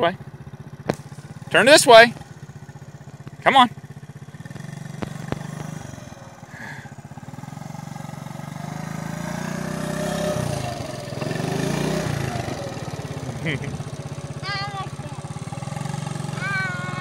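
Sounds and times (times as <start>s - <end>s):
small engine putter: 0.2s - 17.0s.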